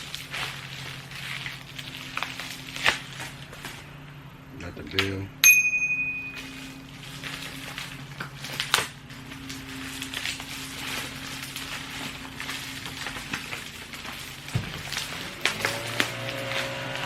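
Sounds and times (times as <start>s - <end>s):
packaging crinkling and rustling: 0.0s - 4.1s, 6.3s - 17.0s
steady low hum: 0.0s - 17.0s.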